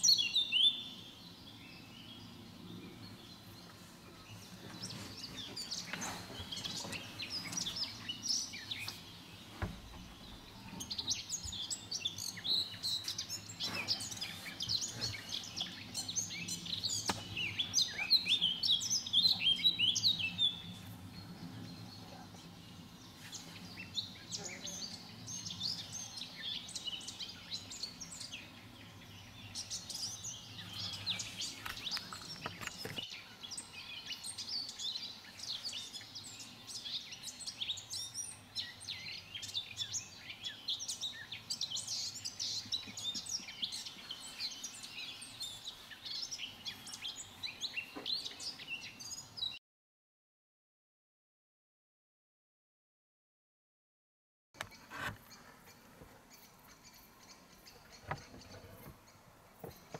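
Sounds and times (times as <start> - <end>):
songbirds chirping: 0.0 - 49.6, 54.6 - 59.9.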